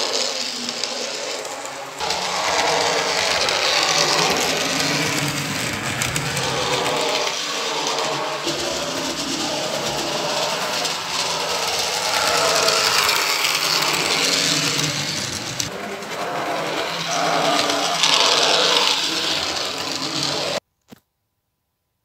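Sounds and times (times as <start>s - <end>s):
model train motor whirring: 0.0s - 20.6s.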